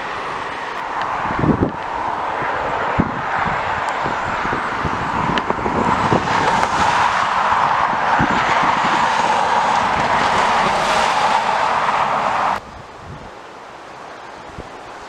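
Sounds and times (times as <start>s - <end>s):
wind buffeting microphone: 0.0s - 13.5s
jet engines rushing: 0.0s - 15.0s.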